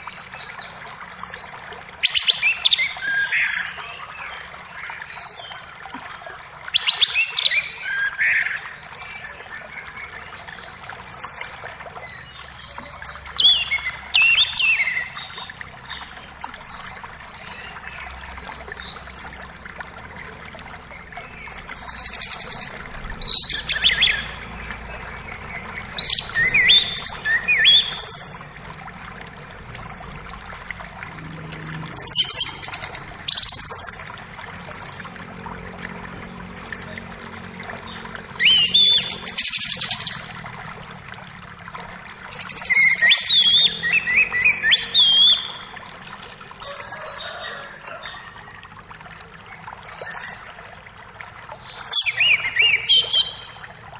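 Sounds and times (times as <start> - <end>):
birds singing: 0.0 - 41.2, 42.1 - 48.5, 51.3 - 53.8
creek rushing: 10.7 - 53.9.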